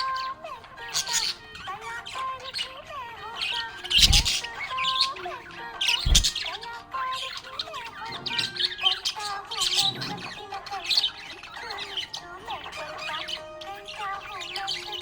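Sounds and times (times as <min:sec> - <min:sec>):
budgies chirping and warbling: 0:00.0 - 0:15.0.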